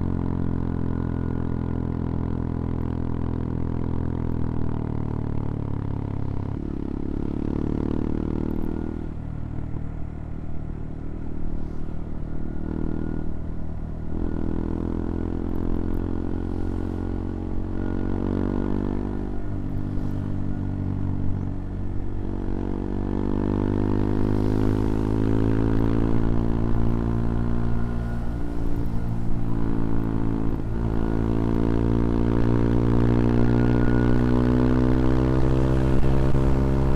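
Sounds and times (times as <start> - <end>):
motorcycle engine revving: 0.0 - 9.2, 11.6 - 36.9.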